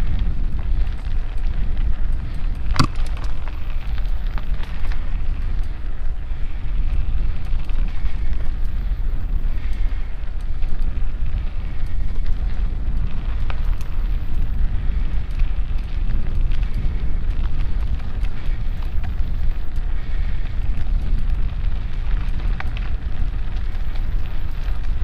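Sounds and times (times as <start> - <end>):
bike clicks and rattles: 0.0 - 25.0
bike tyres rolling on dirt: 0.0 - 25.0
wind on microphone: 0.0 - 25.0.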